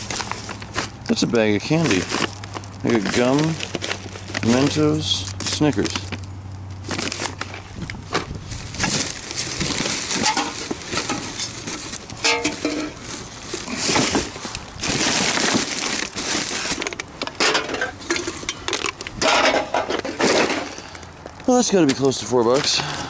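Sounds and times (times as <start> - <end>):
plastic bags rustling and crackling: 0.0 - 23.0.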